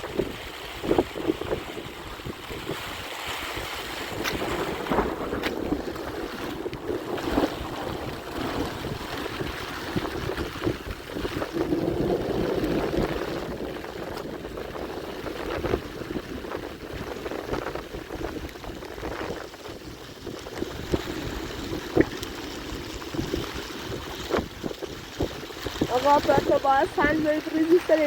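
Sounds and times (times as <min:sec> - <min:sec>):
rain: 0:00.0 - 0:28.0
strong wind: 0:00.0 - 0:28.0
wind noise on microphone: 0:00.0 - 0:28.0.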